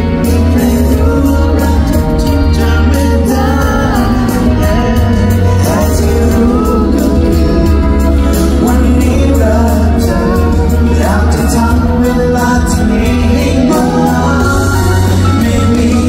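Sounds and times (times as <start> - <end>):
live pop song: 0.0 - 16.0
men singing: 0.0 - 16.0
steady bass: 0.0 - 16.0.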